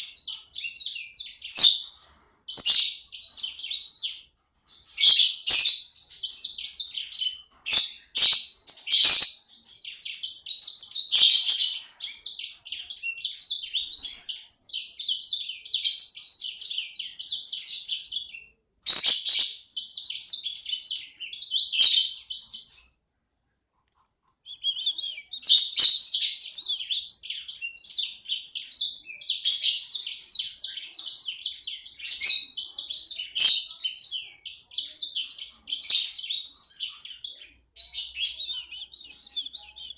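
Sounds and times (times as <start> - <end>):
songbird chattering and twittering: 0.0 - 22.9, 24.3 - 39.9.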